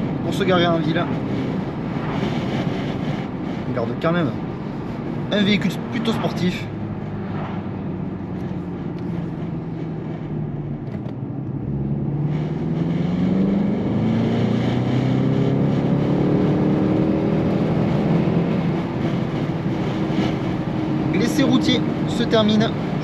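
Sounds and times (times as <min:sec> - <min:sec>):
car engine drone accelerating: 0:00.0 - 0:23.0.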